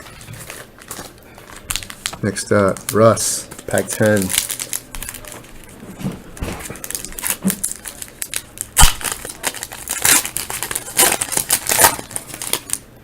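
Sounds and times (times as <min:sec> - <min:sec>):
wrapper tearing and crinkling: 0:00.4 - 0:05.8, 0:06.6 - 0:12.8.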